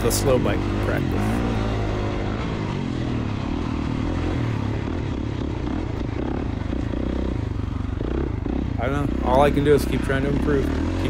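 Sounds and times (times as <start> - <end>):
two-stroke dirt bike engine: 0.0 - 11.0.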